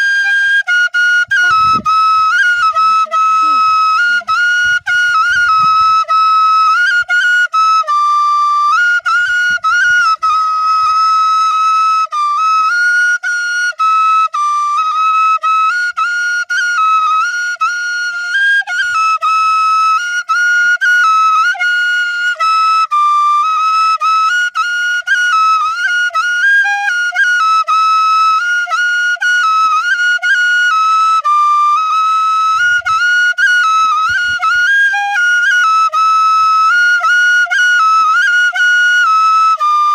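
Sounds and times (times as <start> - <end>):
bamboo flute melody: 0.0 - 39.9.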